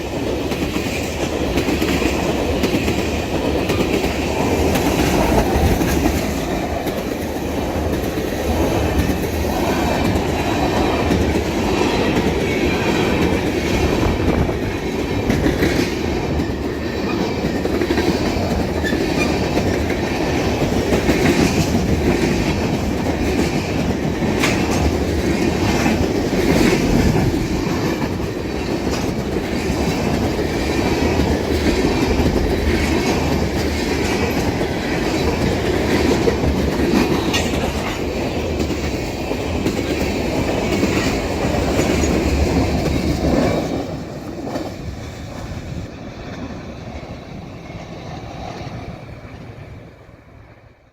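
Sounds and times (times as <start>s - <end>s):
wheels clicking over rail joints: 0.0s - 47.6s
freight train cars rolling: 0.0s - 50.7s.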